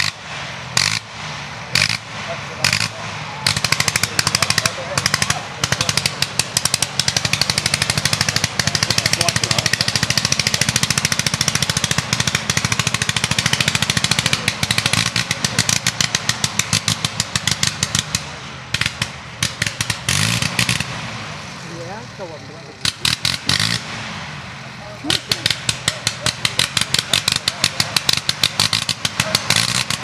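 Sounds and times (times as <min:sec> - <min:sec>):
rotary engine exhaust pops: 0:00.0 - 0:30.0.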